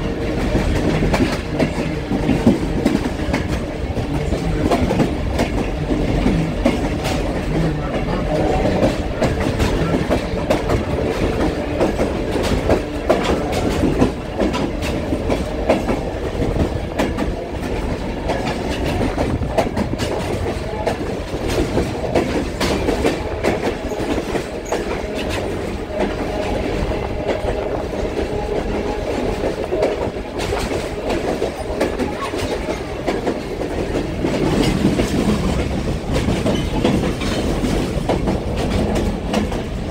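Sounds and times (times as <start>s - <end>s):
train rumbling on track: 0.0s - 39.9s
wheels clacking over rails: 0.0s - 39.9s.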